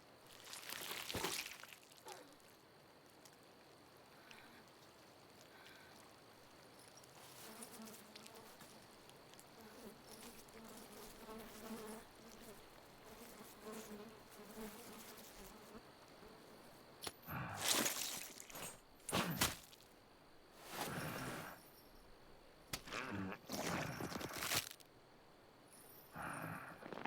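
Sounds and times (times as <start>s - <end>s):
insects buzzing: 0.1s - 26.2s.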